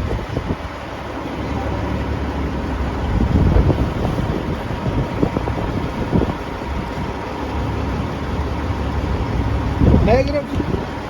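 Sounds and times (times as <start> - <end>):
low engine hum: 0.0 - 11.0
wind buffeting microphone: 0.0 - 11.0.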